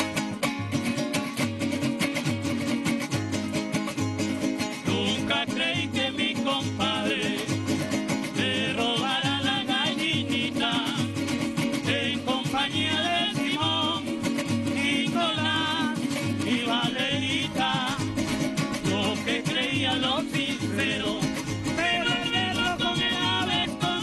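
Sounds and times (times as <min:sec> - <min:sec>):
strummed string instruments: 0:00.0 - 0:24.0
men singing: 0:04.8 - 0:24.0.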